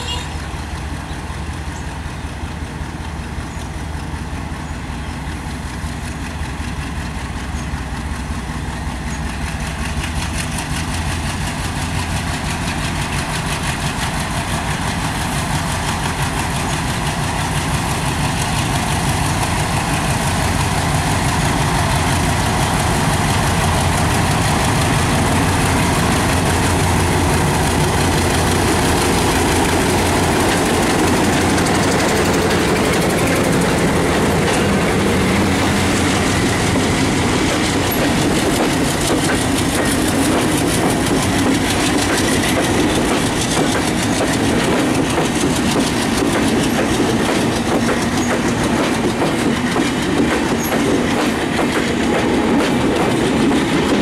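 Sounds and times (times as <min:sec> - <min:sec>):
diesel locomotive engine humming: 0:00.0 - 0:54.0.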